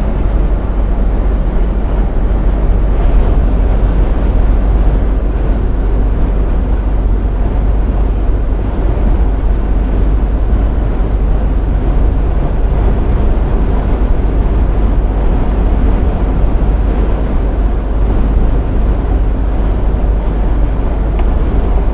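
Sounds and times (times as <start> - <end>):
lorry engine and tyre rumble: 0.0 - 21.9.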